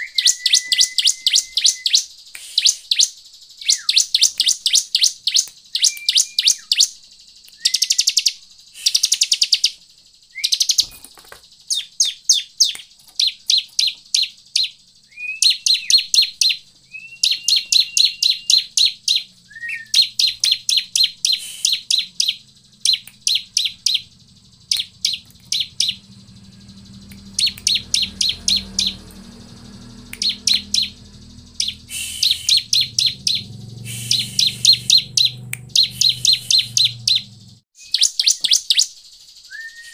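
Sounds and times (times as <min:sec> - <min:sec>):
bird buzzy chirps: 0:00.0 - 0:39.9
faint low hum: 0:03.2 - 0:37.6.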